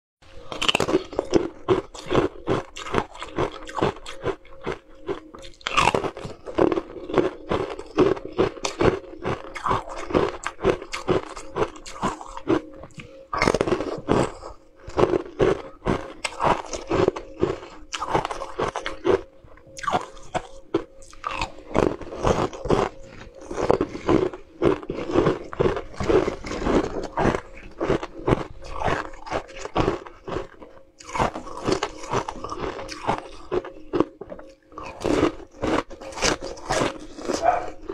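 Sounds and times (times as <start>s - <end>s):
crunching ice: 0.4s - 37.9s.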